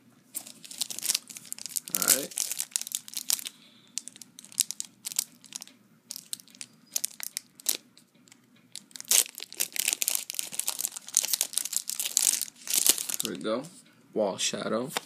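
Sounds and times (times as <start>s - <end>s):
foil wrapper crinkling: 0.4s - 7.8s, 8.7s - 13.4s.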